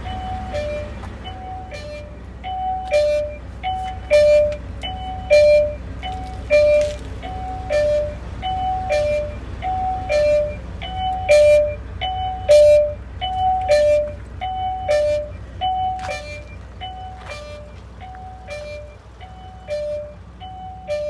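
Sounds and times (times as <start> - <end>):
diesel engine idling: 0.0 - 21.0
truck two-tone warning chime: 0.0 - 21.0.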